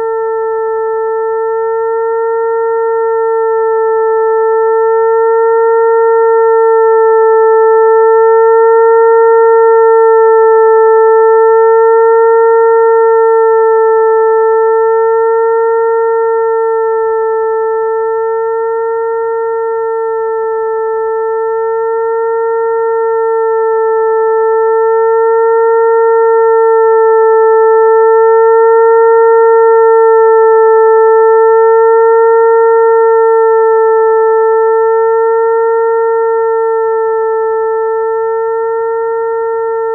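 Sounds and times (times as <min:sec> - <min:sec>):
electronic mosquito hum tone: 0:00.0 - 0:39.9.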